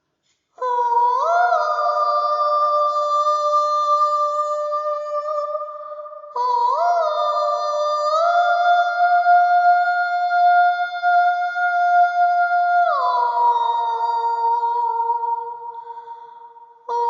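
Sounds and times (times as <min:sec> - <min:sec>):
soprano voice singing high notes: 0:00.6 - 0:16.0.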